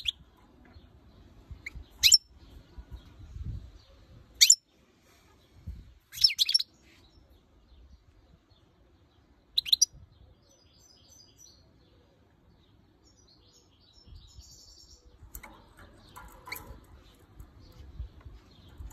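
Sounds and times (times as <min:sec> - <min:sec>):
bird twittering and chirps: 0:00.0 - 0:18.9.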